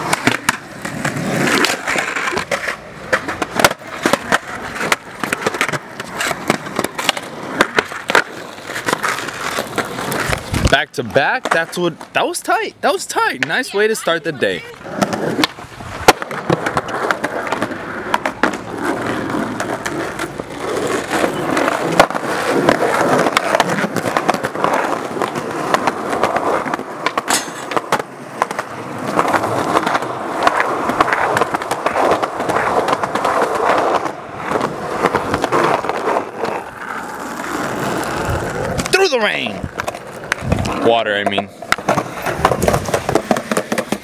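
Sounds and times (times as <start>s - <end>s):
skateboard clacks: 0.0s - 44.0s
skateboard wheels rolling on concrete: 0.0s - 44.0s.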